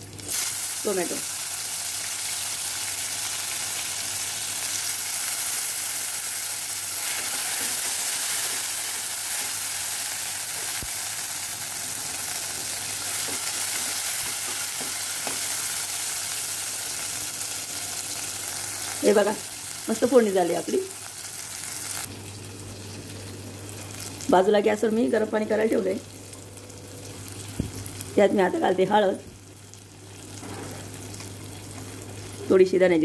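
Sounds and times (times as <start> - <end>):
tomatoes sizzling in oil: 0.0 - 33.0.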